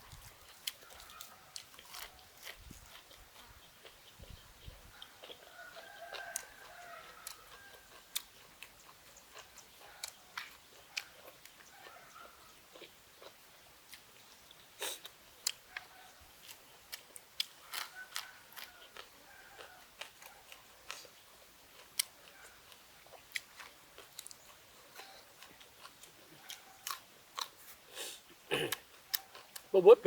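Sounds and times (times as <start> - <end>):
person chewing wetly: 0.0 - 29.7.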